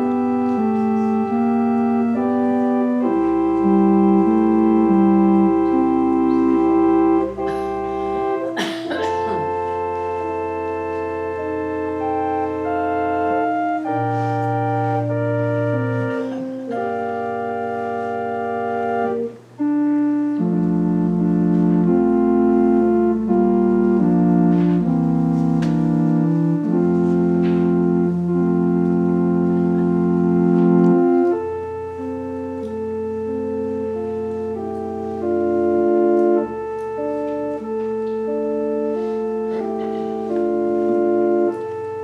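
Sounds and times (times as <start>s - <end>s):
organ playing held chords: 0.0s - 42.0s.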